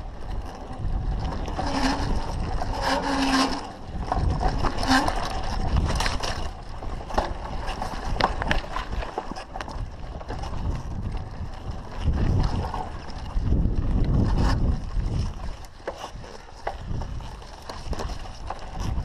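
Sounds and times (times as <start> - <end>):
bike knocking and rattling: 0.0 - 19.0
tyres on dirt: 0.0 - 19.0
wind on microphone: 0.0 - 19.0.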